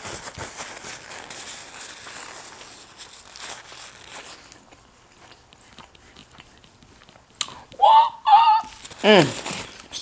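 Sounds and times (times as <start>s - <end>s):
paper napkin crinkling: 0.0s - 7.0s, 8.7s - 10.0s.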